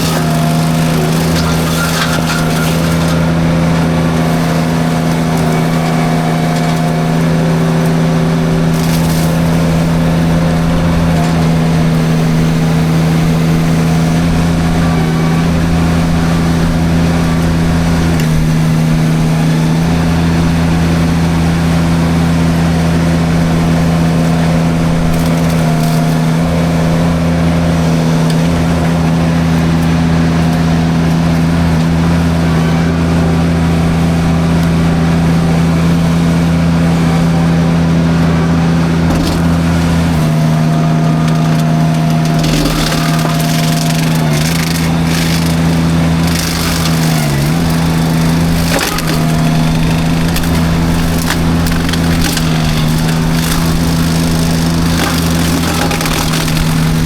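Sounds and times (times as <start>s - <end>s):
wood splintering cracks: 0.0s - 32.2s, 38.9s - 57.0s
drum mulcher shredding brush: 0.0s - 57.0s
skid steer engine running: 0.0s - 57.0s.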